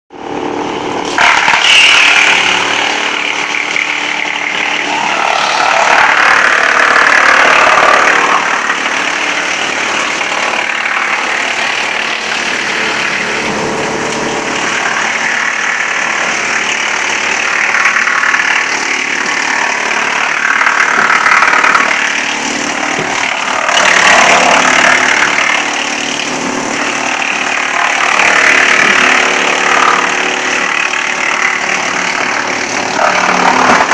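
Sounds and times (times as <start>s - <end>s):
wood chipper running: 0.1s - 33.9s.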